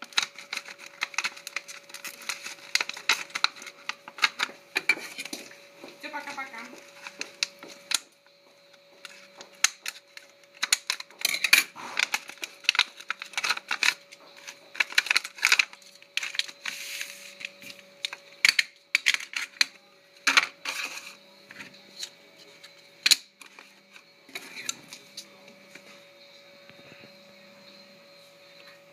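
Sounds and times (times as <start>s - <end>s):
scissors cutting plastic packaging: 0.0s - 8.1s, 9.0s - 25.3s
plastic clicking and crinkling: 0.0s - 16.7s, 17.3s - 25.9s
faint steady hum: 0.0s - 28.9s.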